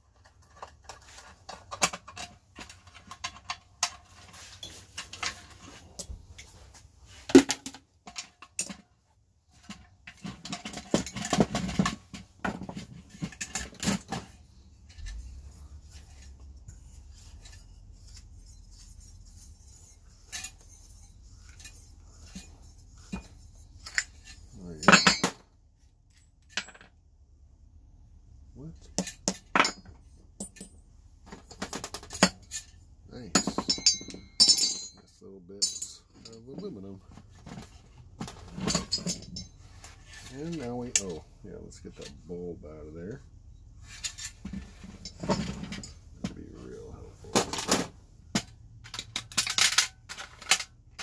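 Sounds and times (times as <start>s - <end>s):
metal clinks and scraping: 0.1s - 27.0s, 28.7s - 51.0s.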